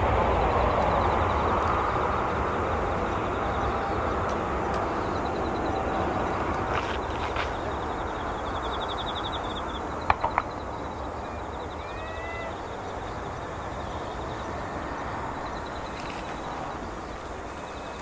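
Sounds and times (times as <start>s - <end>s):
jet engine roar: 0.0s - 18.0s
birds chirping: 0.3s - 18.0s.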